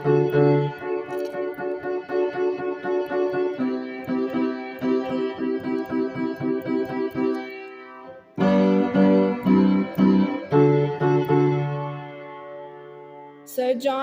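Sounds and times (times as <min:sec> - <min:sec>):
electric piano chords: 0:00.0 - 0:13.6.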